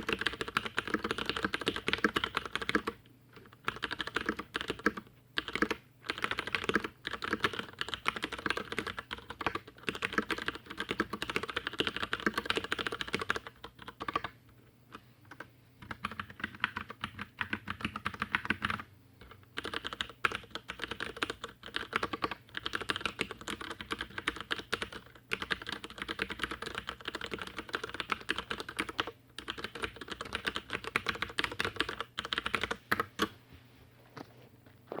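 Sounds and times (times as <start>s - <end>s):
mechanical keyboard typing: 0.0s - 14.4s, 15.3s - 33.3s.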